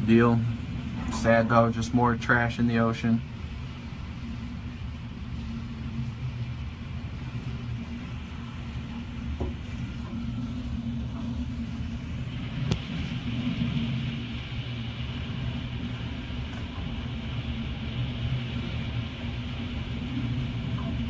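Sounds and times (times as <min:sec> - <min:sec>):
strong wind low rumble: 0:00.0 - 0:21.0.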